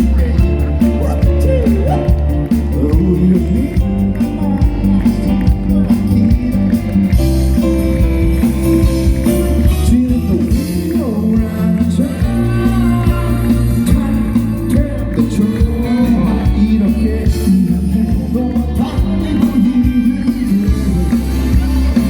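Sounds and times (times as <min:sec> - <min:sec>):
live band music: 0:00.0 - 0:22.0
man singing: 0:00.0 - 0:22.0.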